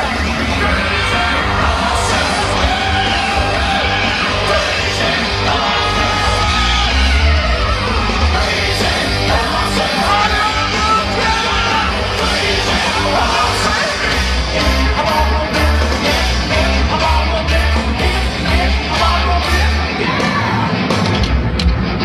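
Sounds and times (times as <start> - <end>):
heavy rock music: 0.0 - 22.0.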